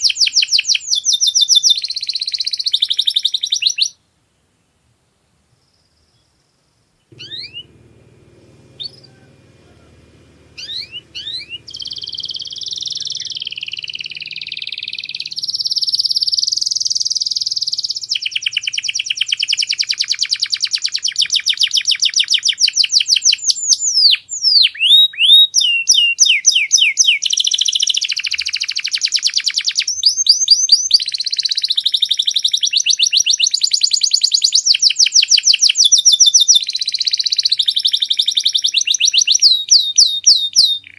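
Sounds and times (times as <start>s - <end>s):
canary singing trills: 7.1s - 40.9s.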